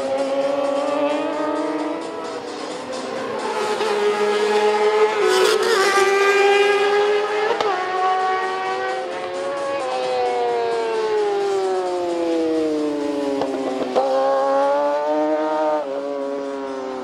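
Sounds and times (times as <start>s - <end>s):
motorcycle engines revving high: 0.0s - 17.0s.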